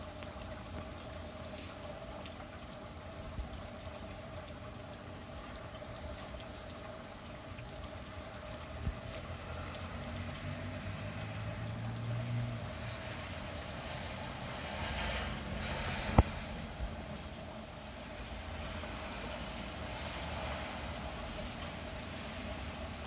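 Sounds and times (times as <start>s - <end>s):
rain on wet pavement: 0.0s - 23.0s.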